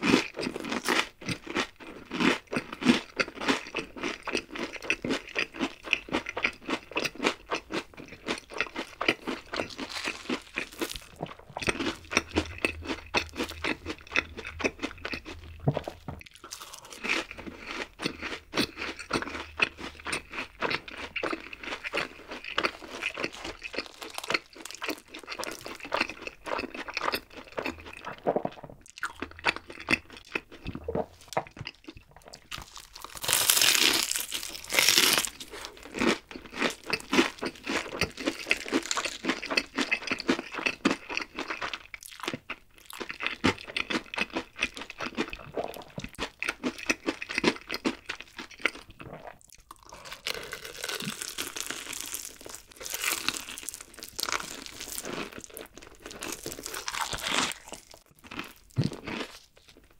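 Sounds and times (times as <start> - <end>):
crunching and chewing fried chicken: 0.0 - 59.9.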